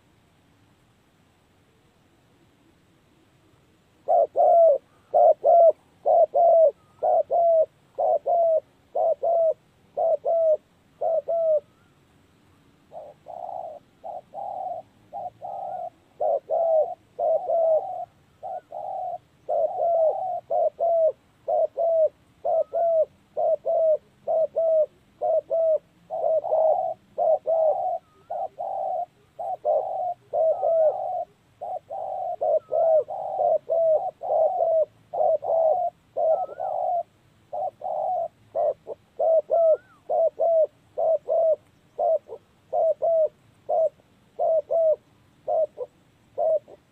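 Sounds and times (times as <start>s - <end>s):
doves cooing: 4.0s - 12.0s, 12.9s - 46.9s.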